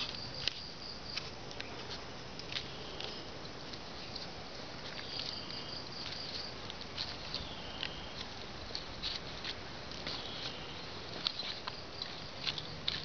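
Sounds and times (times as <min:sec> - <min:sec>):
leaves and twigs crackling underfoot: 0:00.0 - 0:13.0
steady hiss: 0:00.0 - 0:13.0.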